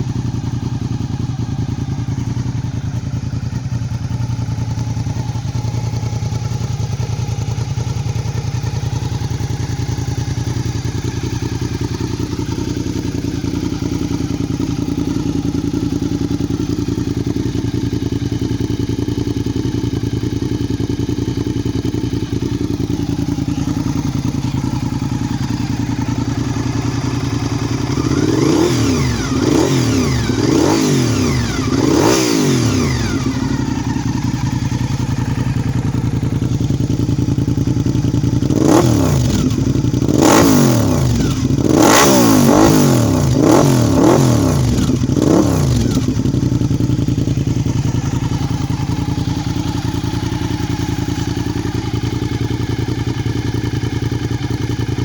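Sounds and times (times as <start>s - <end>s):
motorcycle engine idling: 0.0s - 55.0s
motorcycle throttle blips: 0.0s - 55.0s.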